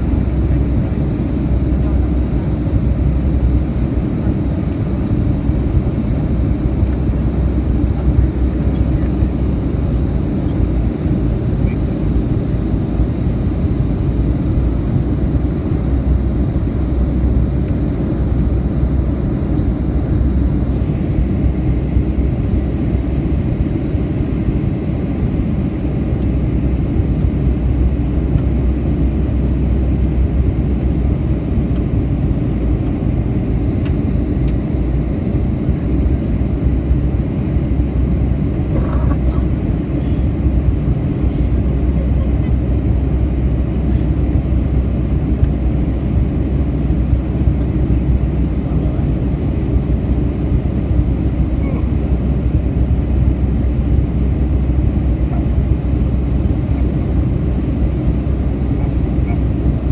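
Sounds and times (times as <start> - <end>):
jet engine and airflow roar: 0.0 - 59.9.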